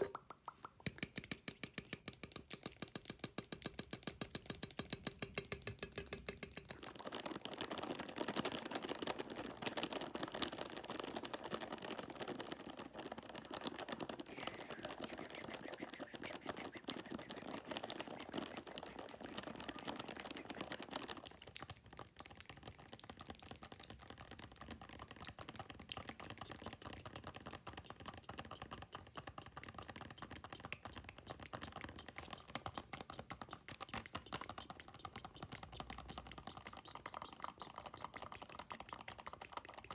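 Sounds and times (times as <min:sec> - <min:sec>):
fast fingernail tapping: 0:00.0 - 0:39.9.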